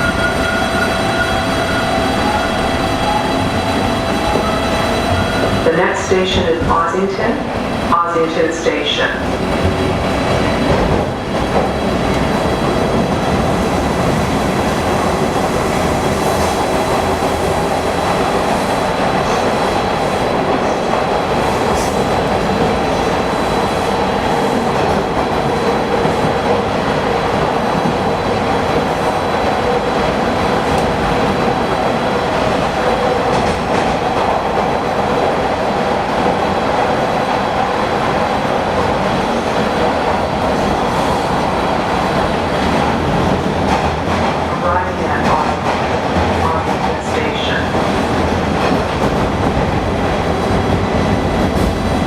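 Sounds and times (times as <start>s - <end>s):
subway wheel and track noise: 0.0s - 52.0s.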